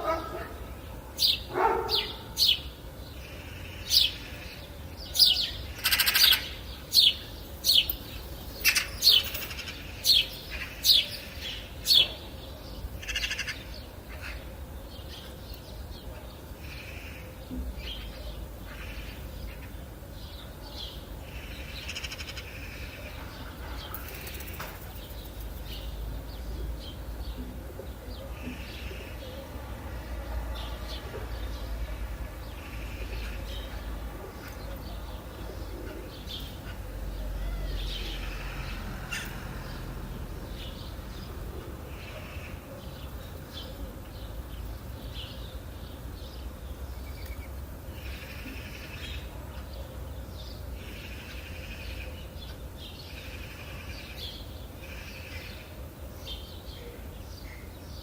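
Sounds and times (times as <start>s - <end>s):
birds calling: 0.0s - 29.6s, 30.6s - 58.0s
low background noise: 0.0s - 58.0s.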